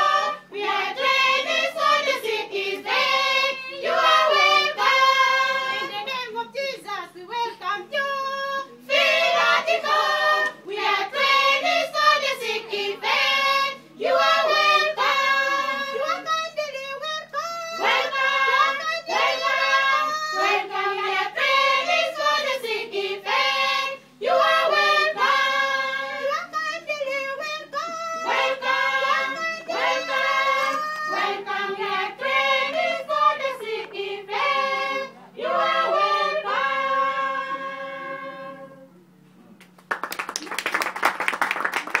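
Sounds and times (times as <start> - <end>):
young women singing together: 0.0 - 38.7.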